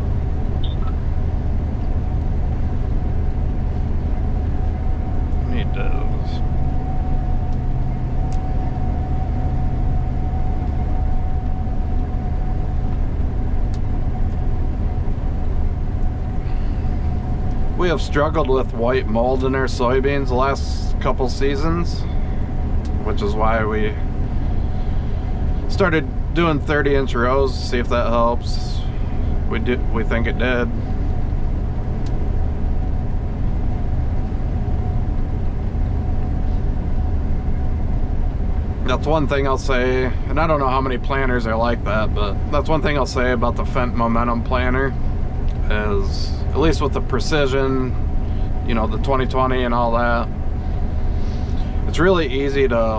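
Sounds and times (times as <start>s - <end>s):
combine harvester rumble: 0.0s - 52.9s
constant whine: 0.0s - 52.9s.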